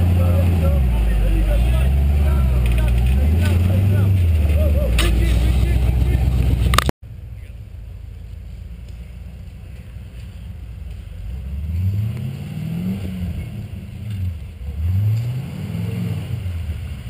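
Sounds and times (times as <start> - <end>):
truck engine rumbling and revving: 0.0 - 17.0.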